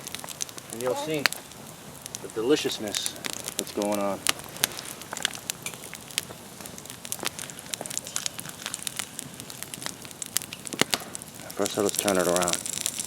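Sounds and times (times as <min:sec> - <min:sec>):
fat and fire crackling: 0:00.0 - 0:13.0
meat sizzling on hot rock: 0:00.0 - 0:13.0.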